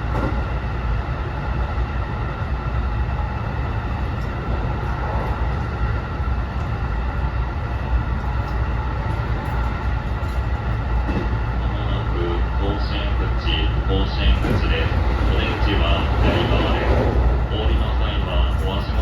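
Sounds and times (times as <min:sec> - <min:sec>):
steady train whine: 0:00.0 - 0:19.0
wheels rumbling on rails: 0:00.0 - 0:19.0.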